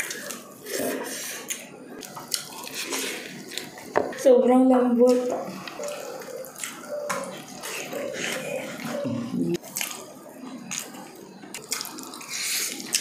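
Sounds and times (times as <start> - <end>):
wet chewing: 0.0 - 4.0, 5.0 - 13.0.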